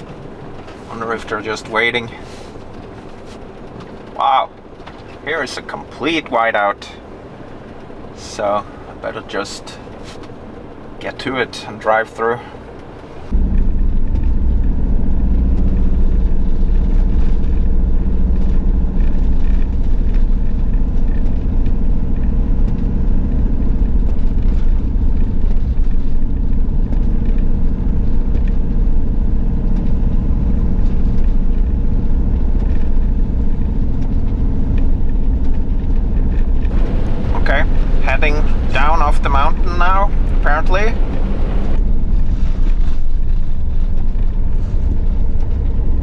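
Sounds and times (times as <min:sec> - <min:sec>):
van engine and tyres rumbling: 0:00.0 - 0:46.0.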